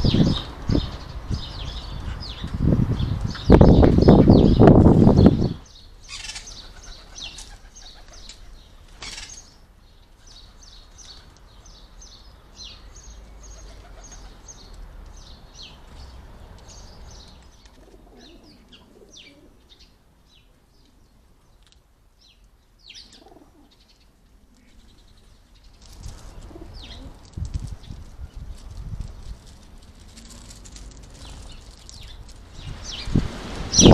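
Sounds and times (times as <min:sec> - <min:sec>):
small birds chirping: 0:00.0 - 0:29.6, 0:30.2 - 0:33.9.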